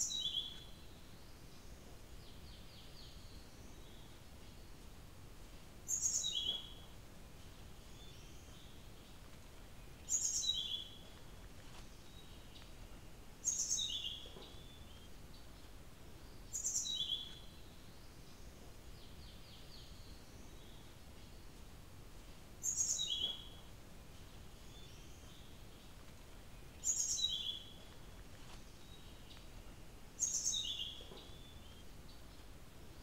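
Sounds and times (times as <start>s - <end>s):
bird song: 0.0s - 21.9s, 22.5s - 33.0s.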